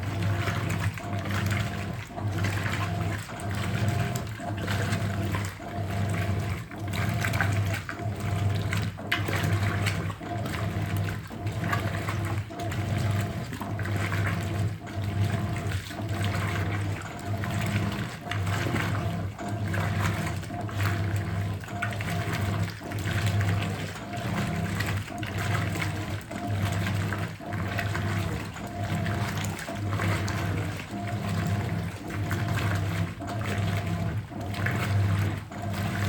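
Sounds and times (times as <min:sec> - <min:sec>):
washing machine motor hum: 0:00.0 - 0:36.0
water sloshing: 0:00.0 - 0:36.0.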